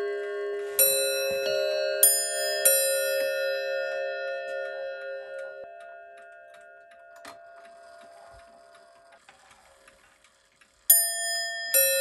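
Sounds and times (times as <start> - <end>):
hammer striking clock bell: 0.0 - 9.2, 10.9 - 12.0
clock bells ringing: 0.0 - 9.3, 10.8 - 12.0.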